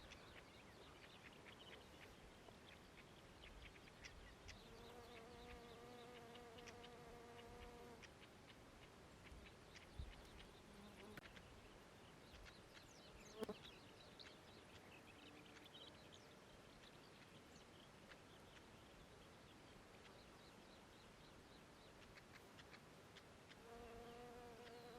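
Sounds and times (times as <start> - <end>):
faint high chirps and ticks: 0.0 - 24.9
insect buzzing faintly: 0.0 - 24.9.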